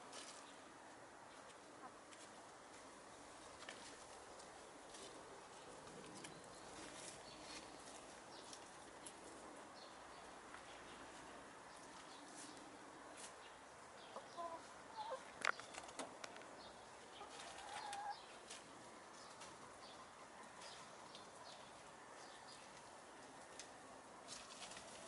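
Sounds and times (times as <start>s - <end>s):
hens foraging in dry leaves: 0.0s - 25.0s.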